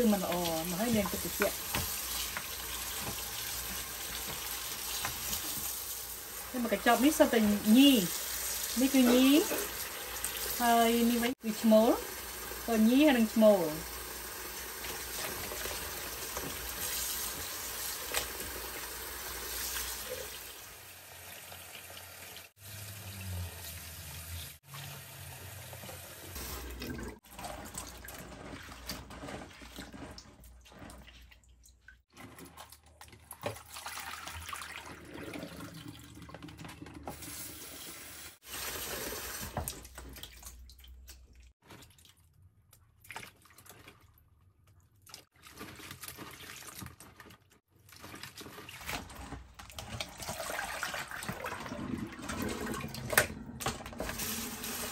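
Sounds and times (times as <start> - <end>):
water sloshing and splashing: 0.0 - 11.8, 14.6 - 18.9, 24.6 - 37.2, 38.4 - 54.9.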